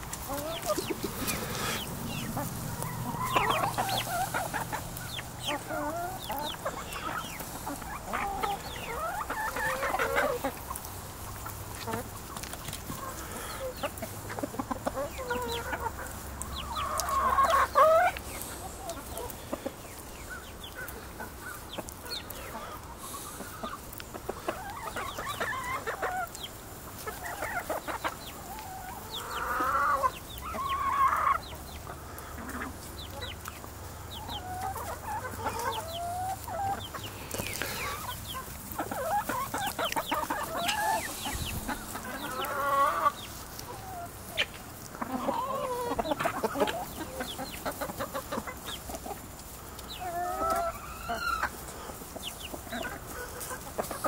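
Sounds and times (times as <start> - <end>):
chickens clucking: 0.0 - 54.0
rising chicken calls: 0.1 - 54.0.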